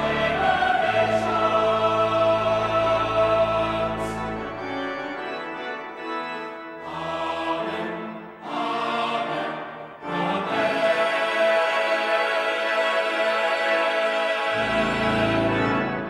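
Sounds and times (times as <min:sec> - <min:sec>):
choir singing: 0:00.0 - 0:16.0
pipe organ: 0:00.0 - 0:16.0.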